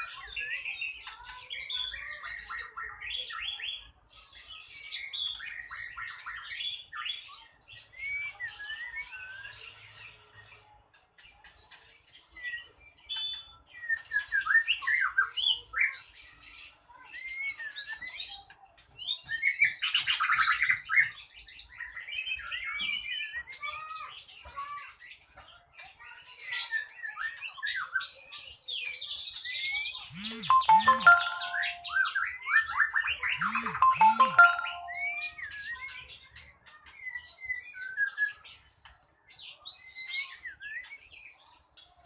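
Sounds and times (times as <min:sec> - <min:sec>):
songbird chirping and trilling: 0:00.0 - 0:42.0.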